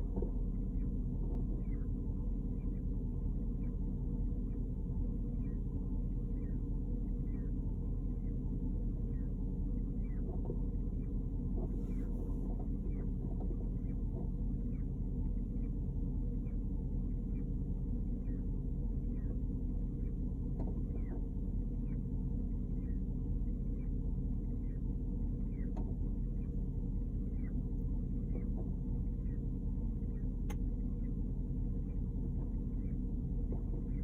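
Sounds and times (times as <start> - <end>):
car engine rumble: 0.0 - 34.0.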